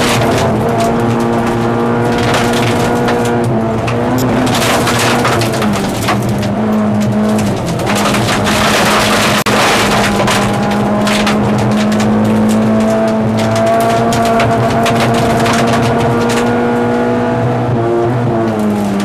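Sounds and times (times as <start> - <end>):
car engine running hard: 0.0 - 19.0
gravel rattling against car: 0.0 - 19.0.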